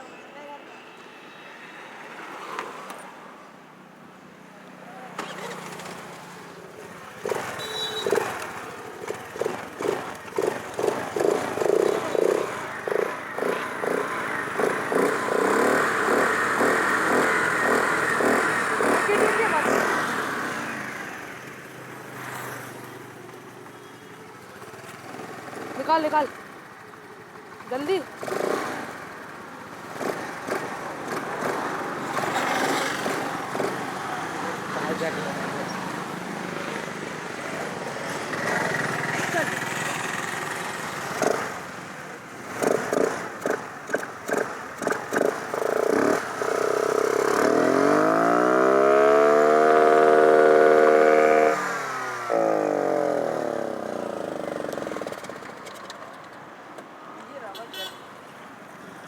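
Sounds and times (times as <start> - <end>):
scooter engine revving: 5.1 - 56.5.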